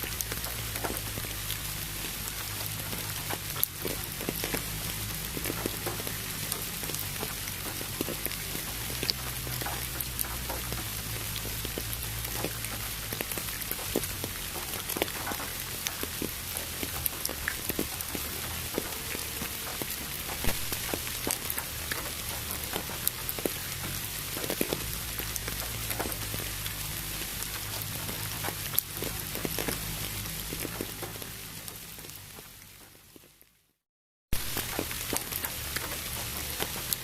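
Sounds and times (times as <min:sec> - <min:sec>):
rain drops pattering: 0:00.0 - 0:37.0.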